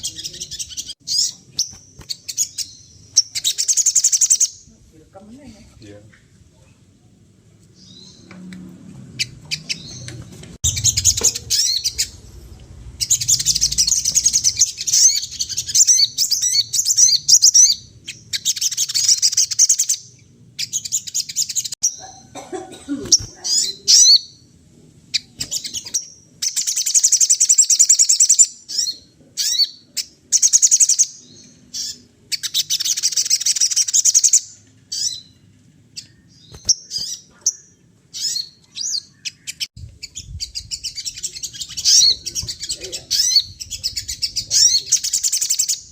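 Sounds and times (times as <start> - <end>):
songbird twittering: 0.0 - 4.7, 9.2 - 22.3, 25.1 - 35.4, 36.0 - 45.9.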